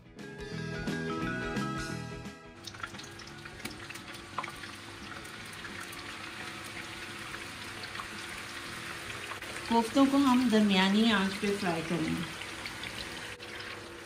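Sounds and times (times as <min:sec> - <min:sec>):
background music: 0:00.0 - 0:12.3
meat deep-frying in oil: 0:02.6 - 0:14.0.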